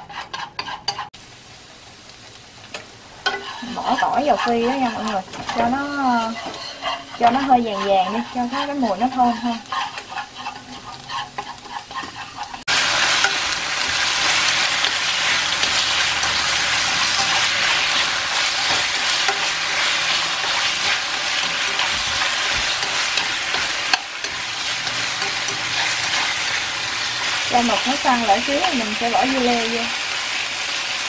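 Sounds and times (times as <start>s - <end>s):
spatula stirring: 0.0s - 1.2s, 2.7s - 29.4s
garlic sizzling in oil: 0.0s - 31.0s
loud dense sizzling: 1.1s - 31.0s.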